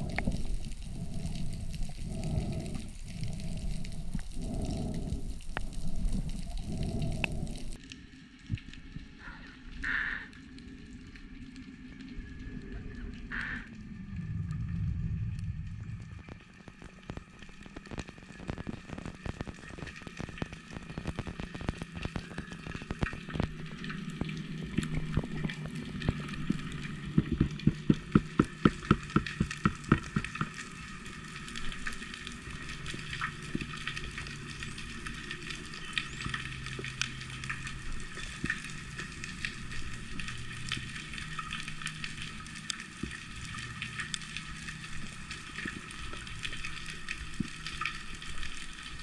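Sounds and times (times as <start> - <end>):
underwater crackling hiss: 0.0 - 7.8, 16.3 - 49.0.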